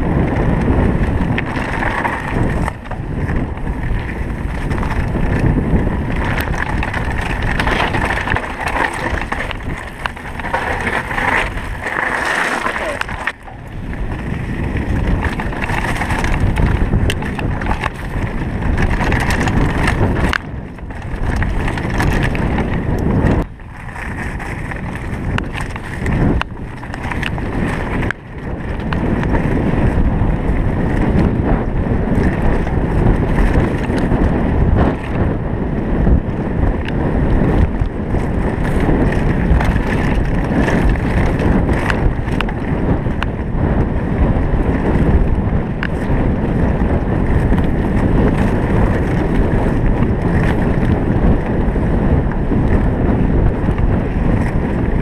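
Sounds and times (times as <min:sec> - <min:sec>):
bike knocks and rattles: 0:00.0 - 0:55.0
bike tyre rumble: 0:00.0 - 0:55.0
wind rushing over microphone: 0:00.0 - 0:55.0.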